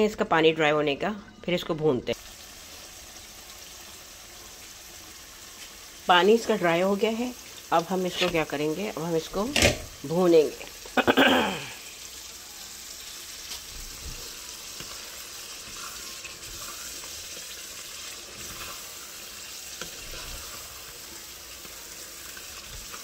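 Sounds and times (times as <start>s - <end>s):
meat sizzling in a pot: 2.1s - 23.0s.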